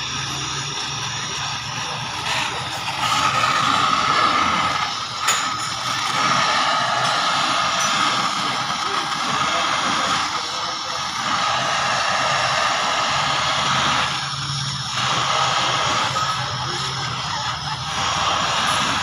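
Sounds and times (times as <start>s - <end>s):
welding torch flame hissing: 0.0s - 19.0s.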